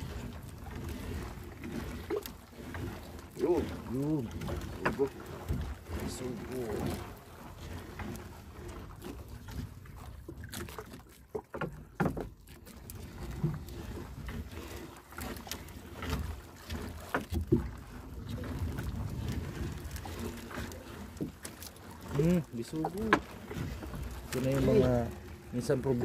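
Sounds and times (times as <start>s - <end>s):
water sloshing against hull: 0.0s - 26.0s.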